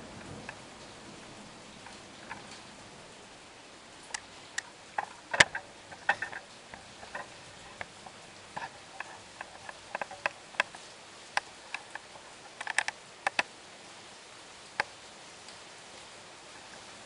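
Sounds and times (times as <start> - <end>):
raindrops tapping hard surface: 0.0 - 13.6, 14.6 - 17.0
rain hiss: 0.0 - 17.0.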